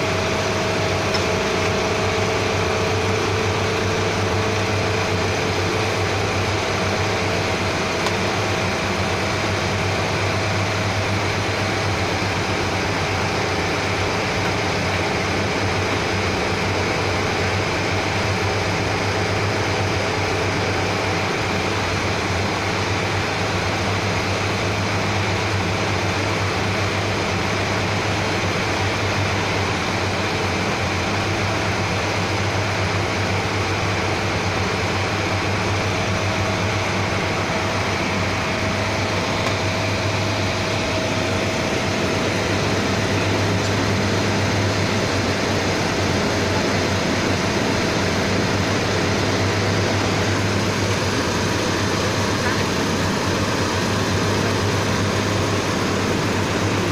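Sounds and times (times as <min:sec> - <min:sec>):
machinery humming and hissing: 0:00.0 - 0:56.9.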